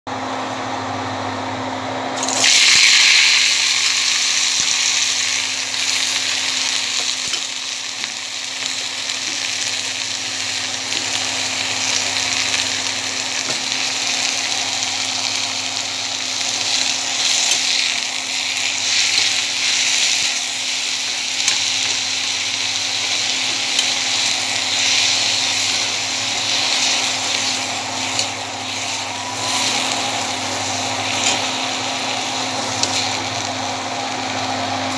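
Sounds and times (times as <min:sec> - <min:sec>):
oil sizzling in a wok: 0:02.2 - 0:34.9.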